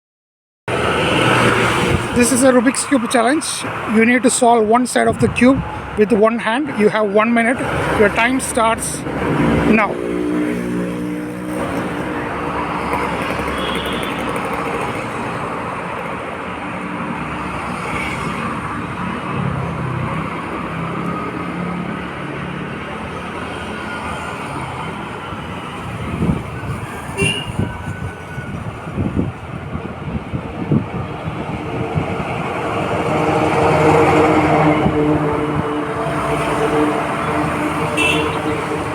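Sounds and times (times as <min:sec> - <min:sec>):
street traffic: 0:00.7 - 0:38.9.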